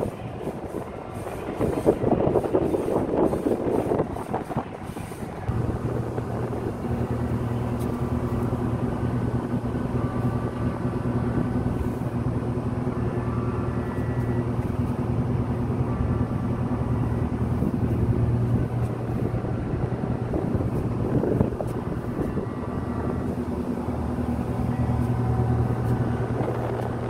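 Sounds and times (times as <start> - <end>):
ship machinery droning hum: 0.0 - 27.0.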